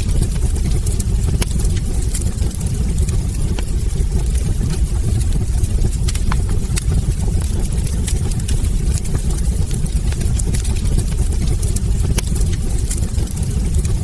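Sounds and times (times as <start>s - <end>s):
burning logs crackling and popping: 0.0s - 14.0s
fire rumbling: 0.0s - 14.0s.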